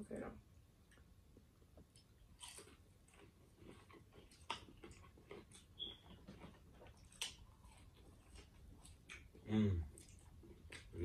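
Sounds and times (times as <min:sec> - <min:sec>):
faint chewing: 0:00.8 - 0:11.0.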